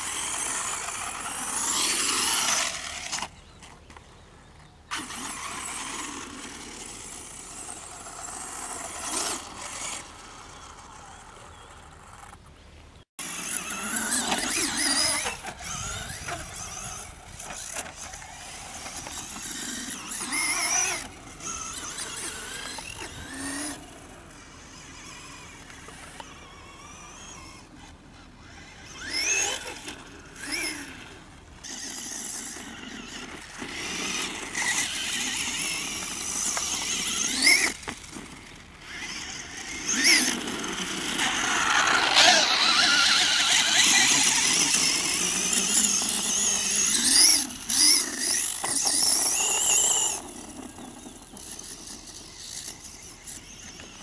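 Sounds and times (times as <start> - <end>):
rc car motors whining: 0.0 - 12.6, 13.2 - 54.0.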